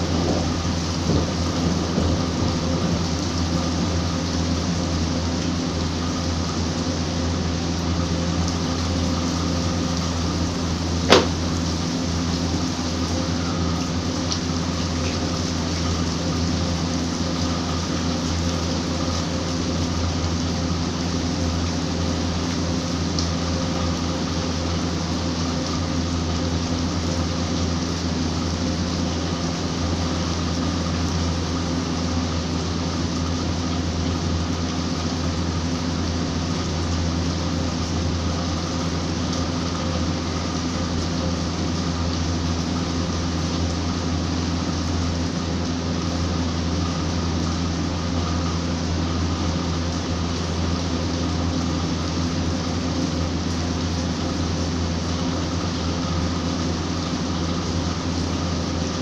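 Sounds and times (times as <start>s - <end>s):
low steady hum: 0.0s - 59.0s
rain falling on concrete: 0.0s - 59.0s.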